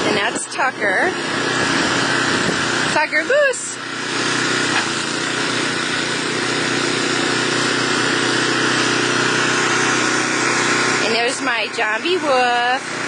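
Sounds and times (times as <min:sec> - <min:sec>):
snowblower engine running: 0:00.0 - 0:13.0.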